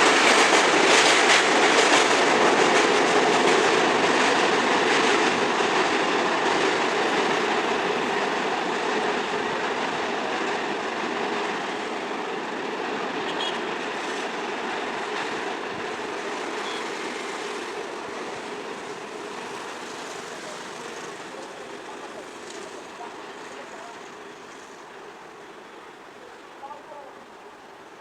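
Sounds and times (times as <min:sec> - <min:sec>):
train rumbling past on rails: 0:00.0 - 0:28.0.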